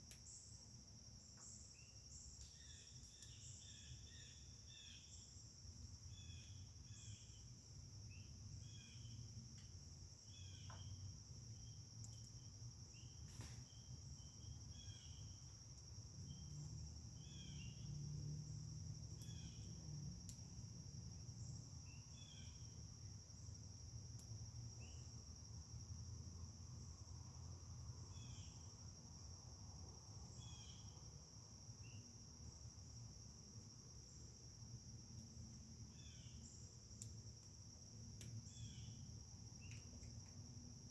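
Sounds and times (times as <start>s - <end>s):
crickets trilling: 0.0s - 40.9s
insect chirps: 0.0s - 40.9s.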